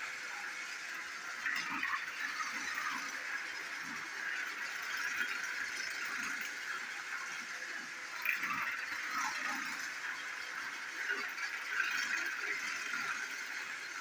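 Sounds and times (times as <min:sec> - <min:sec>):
toy train motor whirring: 0:00.0 - 0:14.0
toy train rattling on track: 0:01.4 - 0:14.0.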